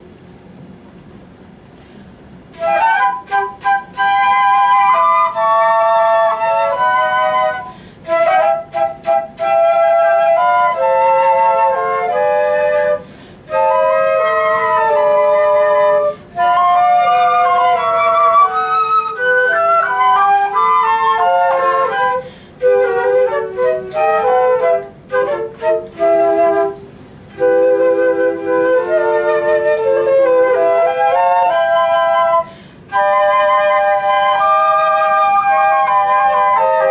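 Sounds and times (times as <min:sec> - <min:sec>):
flute playing a melody: 0:02.5 - 0:36.9.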